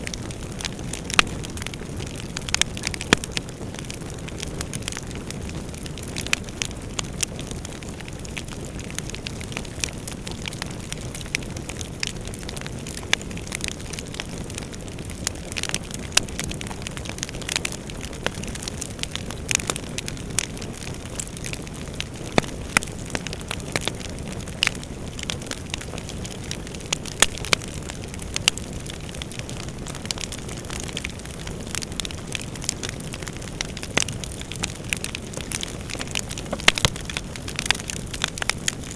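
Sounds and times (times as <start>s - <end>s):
fire crackling and popping: 0.0s - 38.9s
low roar of flames: 0.0s - 38.9s.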